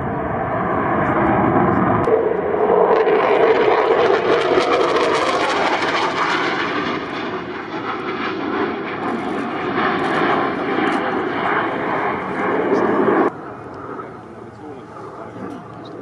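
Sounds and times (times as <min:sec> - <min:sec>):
fighter jet engine roar: 0:00.0 - 0:16.0.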